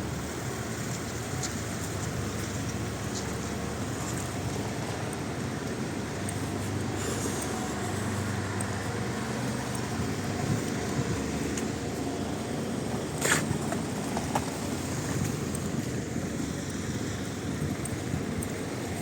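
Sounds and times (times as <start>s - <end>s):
engines humming: 0.0s - 19.0s.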